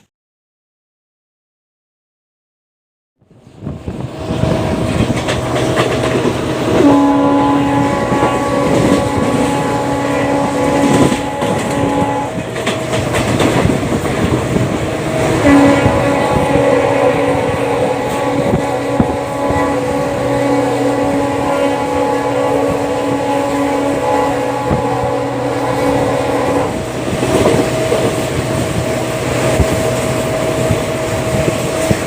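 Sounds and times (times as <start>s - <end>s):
train wheels clacking on rails: 3.6s - 32.0s
locomotive air horn blasts: 5.7s - 32.0s.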